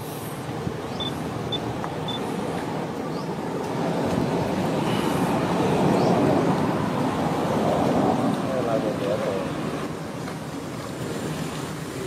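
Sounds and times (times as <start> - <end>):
outdoor rushing hum: 0.0 - 12.0.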